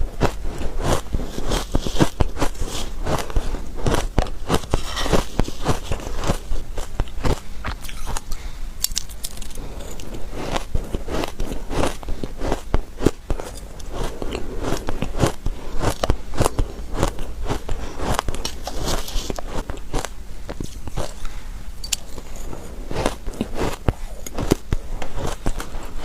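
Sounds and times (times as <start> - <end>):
ice being chewed crunching: 0.1 - 26.0.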